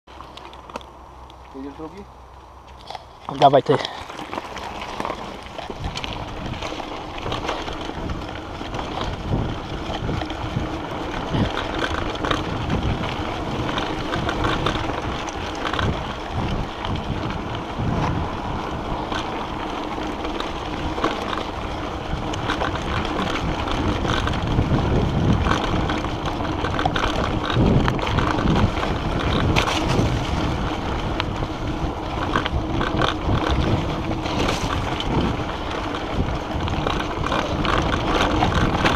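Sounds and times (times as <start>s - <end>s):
bike rattling and knocking: 2.7s - 38.9s
tyres rolling over dirt: 3.3s - 38.9s
wind buffeting microphone: 3.6s - 38.9s.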